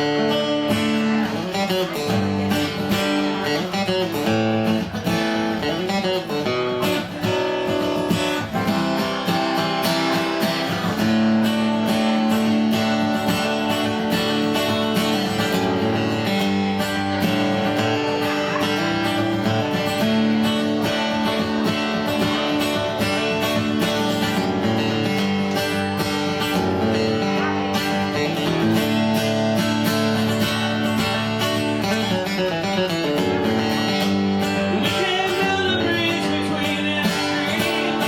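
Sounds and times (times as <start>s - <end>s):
live band guitar instrumental: 0.0s - 38.0s.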